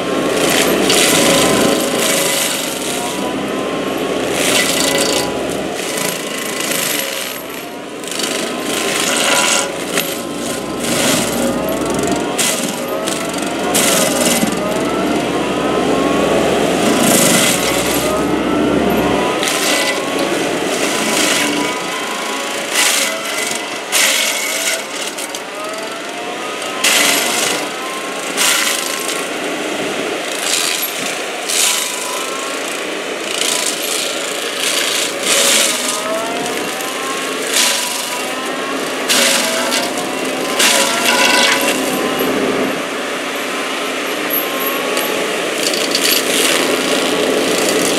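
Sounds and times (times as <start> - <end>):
stump grinder grinding wood: 0.0 - 47.9.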